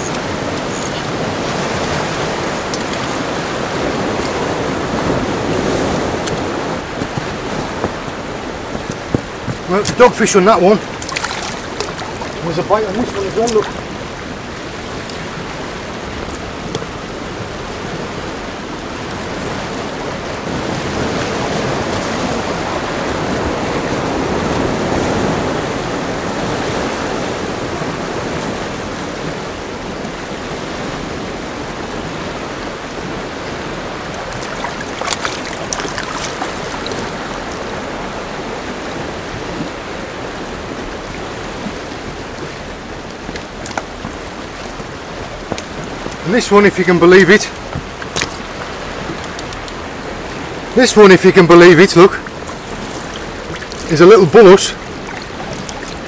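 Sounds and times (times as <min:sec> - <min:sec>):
surf washing against rocks: 0:00.0 - 0:56.0.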